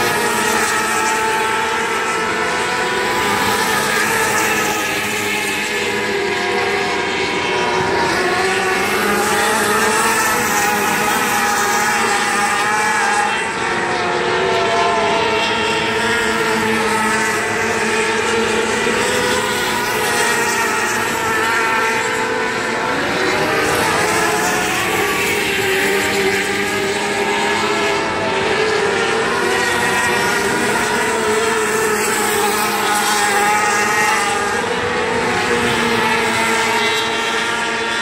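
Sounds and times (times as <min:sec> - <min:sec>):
race car engines droning: 0:00.0 - 0:38.0.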